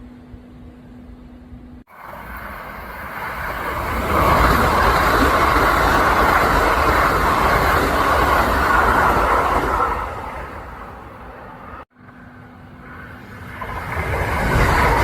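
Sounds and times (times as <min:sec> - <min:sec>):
electric train passing at speed: 0:01.8 - 0:15.0.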